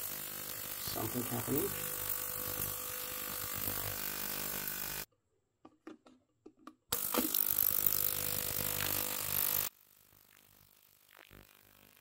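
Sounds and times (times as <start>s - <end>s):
ultrasonic cleaner buzzing hum: 0.0s - 5.1s, 7.0s - 12.0s.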